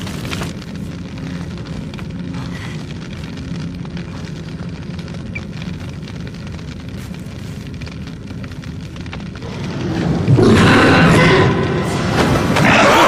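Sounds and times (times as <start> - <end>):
explosion blast crackle: 0.0 - 13.0
low rumble: 0.0 - 13.0.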